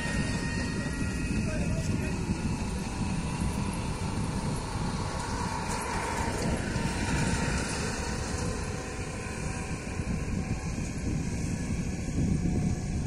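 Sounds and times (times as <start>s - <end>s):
ship engine low rumble: 0.0s - 13.0s
wind noise on microphone: 0.0s - 13.0s.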